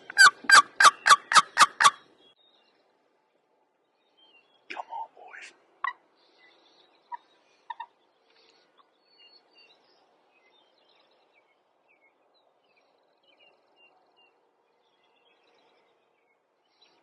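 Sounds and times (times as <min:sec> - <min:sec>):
faint songbirds chirping: 0:00.0 - 0:17.0.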